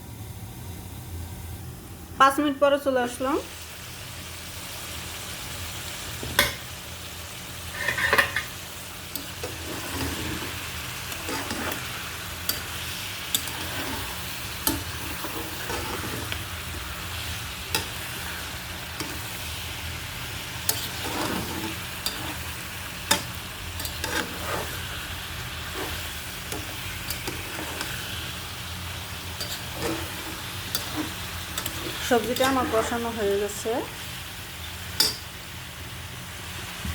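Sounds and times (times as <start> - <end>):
vegetables sizzling in oil: 2.2 - 36.9.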